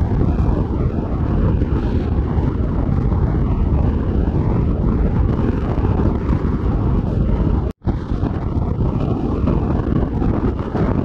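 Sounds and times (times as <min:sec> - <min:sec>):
machine running with low rumble: 0:00.0 - 0:11.0.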